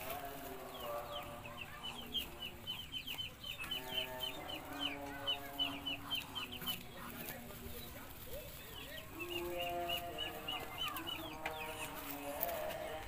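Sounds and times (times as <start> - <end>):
poultry clucking: 0.0 - 13.0.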